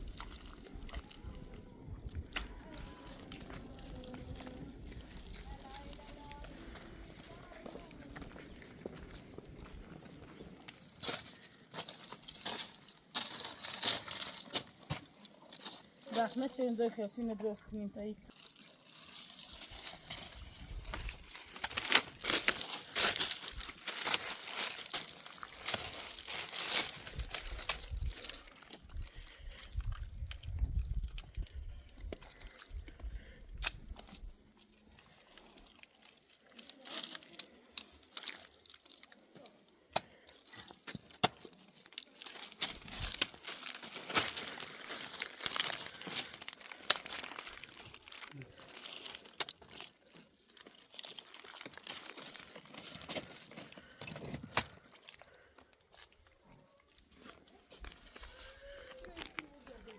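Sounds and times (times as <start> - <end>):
crinkling handling noises: 0.0 - 59.9.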